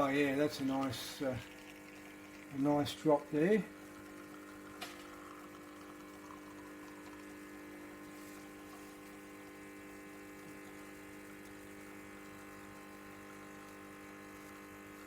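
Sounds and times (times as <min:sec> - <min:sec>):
espresso machine pump humming: 0:00.0 - 0:15.0.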